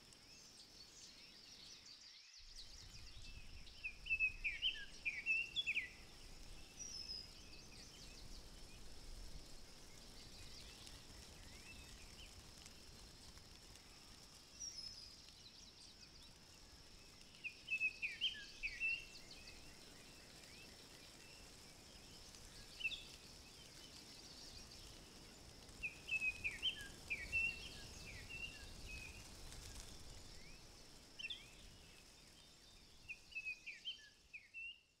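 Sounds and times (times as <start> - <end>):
faint high hiss: 0.0 - 35.0
small birds chirping: 0.0 - 35.0.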